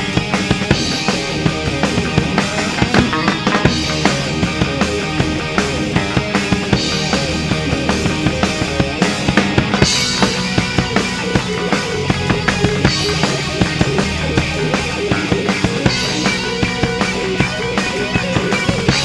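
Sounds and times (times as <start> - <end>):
drum kit beat: 0.0 - 19.0
electric guitars: 0.0 - 19.0.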